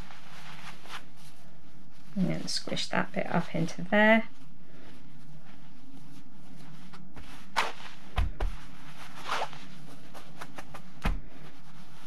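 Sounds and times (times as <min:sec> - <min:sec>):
cloth rustling: 0:00.0 - 0:12.0
steady low hum: 0:00.0 - 0:12.0.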